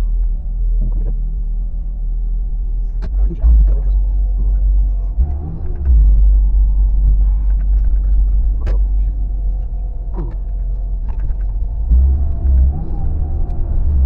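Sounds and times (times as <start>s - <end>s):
car driving on road: 0.0s - 14.0s.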